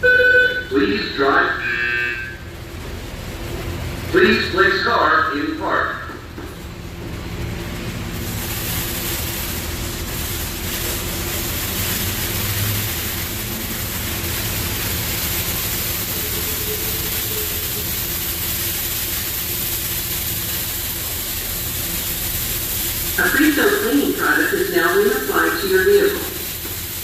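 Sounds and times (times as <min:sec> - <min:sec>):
car wash machinery running: 0:00.0 - 0:27.0.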